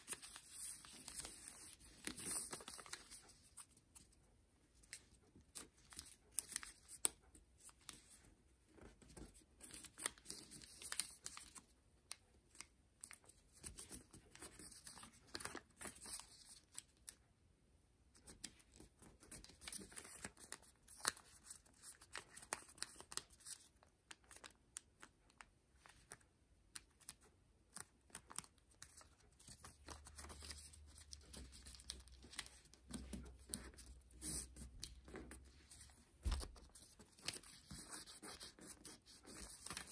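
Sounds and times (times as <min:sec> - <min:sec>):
paper rustling and crinkling: 0:00.0 - 0:04.2, 0:04.8 - 0:17.1, 0:18.3 - 0:26.2, 0:26.8 - 0:39.9.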